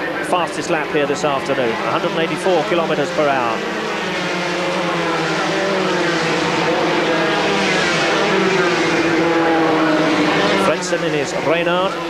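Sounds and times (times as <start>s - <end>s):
racing car engines at high revs: 0.0s - 12.0s.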